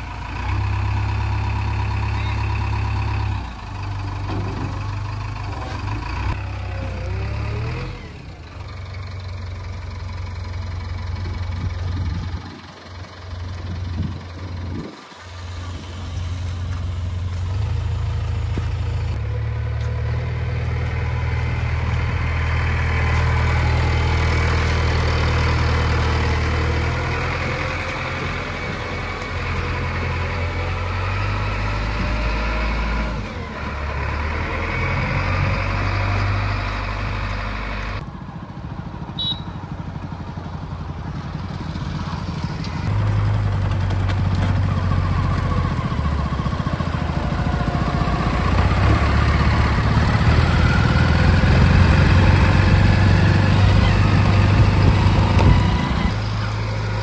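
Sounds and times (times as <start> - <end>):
diesel engine revving: 0.0 - 38.1, 40.1 - 57.0.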